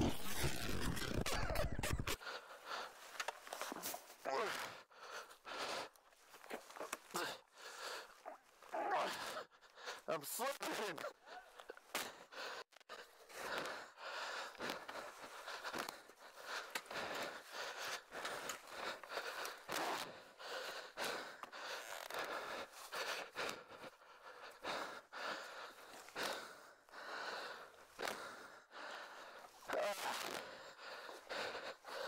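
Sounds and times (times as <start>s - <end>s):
heavy laboured breathing: 0.0s - 32.0s.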